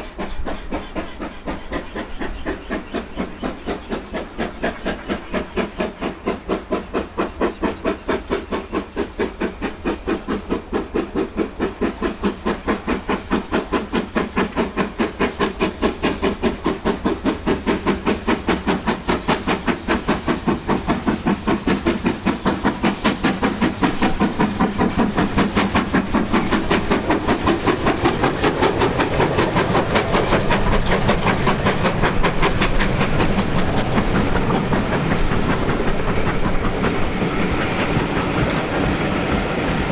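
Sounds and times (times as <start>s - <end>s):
steam locomotive exhaust beating: 0.0s - 39.9s
train rumbling on rails: 0.0s - 39.9s.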